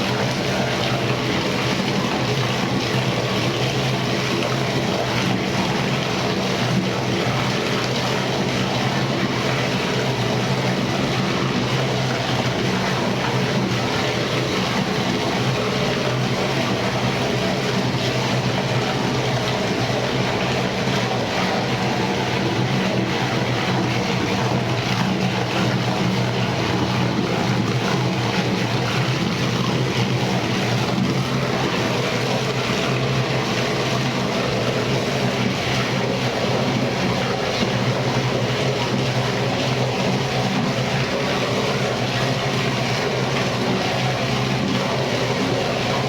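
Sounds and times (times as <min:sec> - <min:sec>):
meat grinder motor running: 0:00.0 - 0:46.0.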